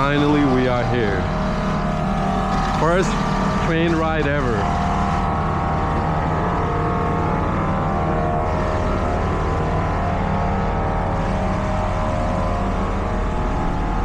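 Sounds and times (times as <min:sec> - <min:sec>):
train mechanical hum: 0:00.0 - 0:14.0.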